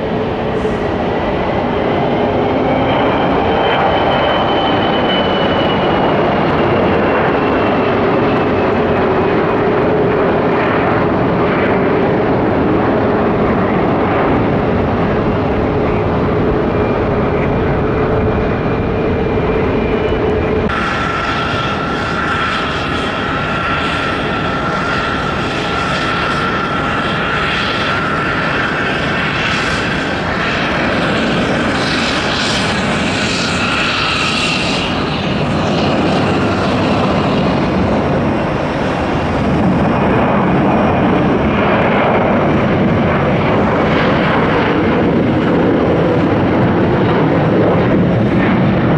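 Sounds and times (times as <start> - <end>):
jet engines at take-off thrust: 0.0 - 48.9
jet engines rumbling and whining: 0.0 - 48.9.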